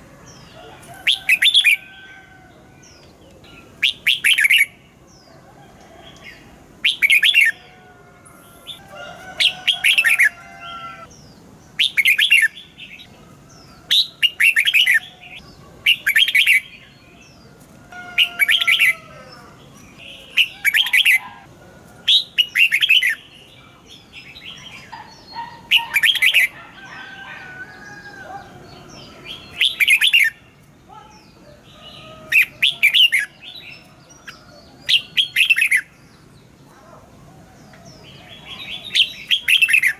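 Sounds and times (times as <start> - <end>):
bird song phrases: 0.0 - 39.9.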